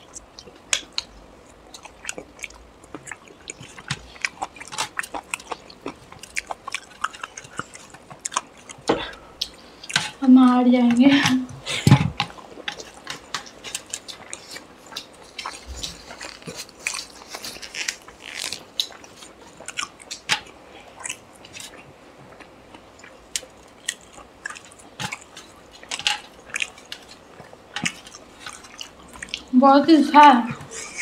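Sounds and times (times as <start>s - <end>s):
person chewing and eating: 0.0s - 29.6s.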